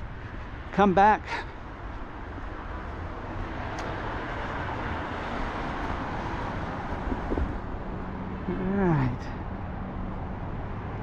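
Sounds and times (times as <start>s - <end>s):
road traffic: 0.0s - 11.0s
vehicle passing by: 1.4s - 11.0s.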